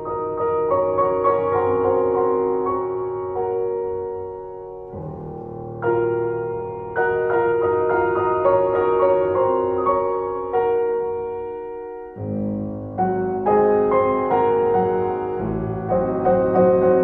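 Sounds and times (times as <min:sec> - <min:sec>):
low piano bass notes: 0:00.0 - 0:17.0
slow gentle piano music: 0:00.0 - 0:17.0.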